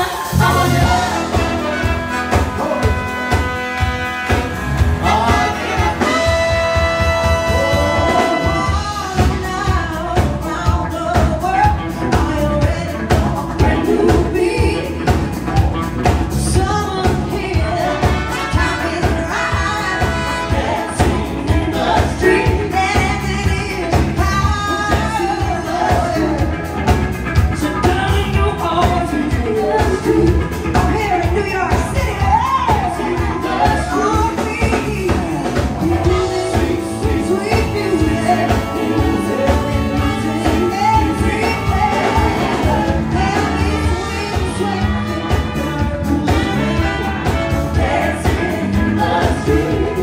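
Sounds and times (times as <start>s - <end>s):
drums keeping a driving beat: 0.0s - 50.0s
live band playing: 0.0s - 50.0s.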